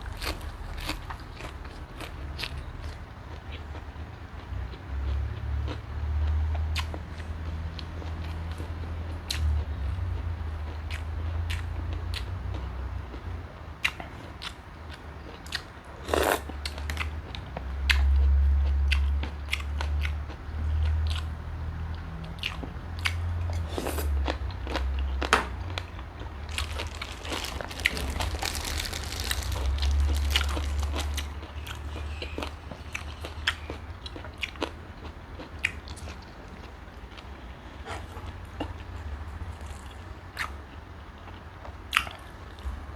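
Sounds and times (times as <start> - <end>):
crunchy chewing: 0.0 - 42.8.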